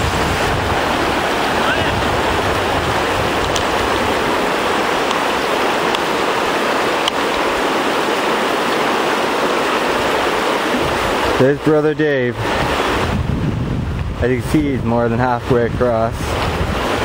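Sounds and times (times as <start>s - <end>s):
river rushing over riffles: 0.0s - 17.0s.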